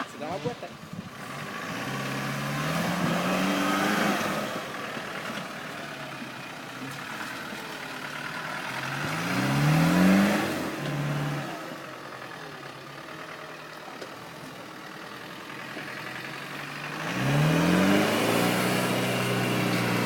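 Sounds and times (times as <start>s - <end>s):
engine revving: 1.1s - 13.4s, 15.1s - 20.0s.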